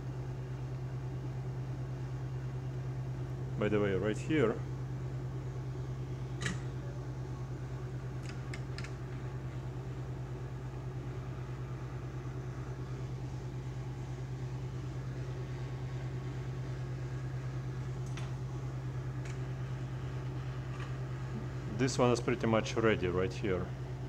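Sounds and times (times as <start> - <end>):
hot air station fan hum: 0.0 - 24.0.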